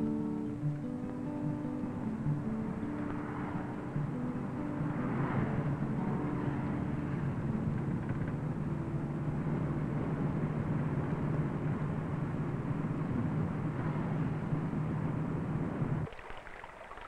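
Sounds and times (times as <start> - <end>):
car engine and road noise: 0.0 - 16.1.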